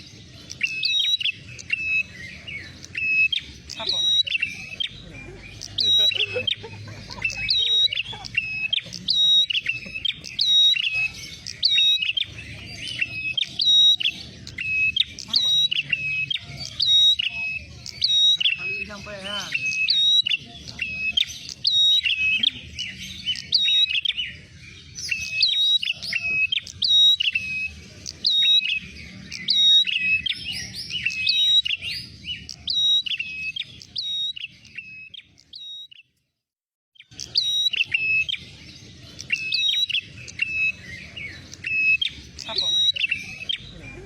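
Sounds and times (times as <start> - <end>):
bird rapid sharp chirping: 0.0 - 36.1, 37.0 - 44.0.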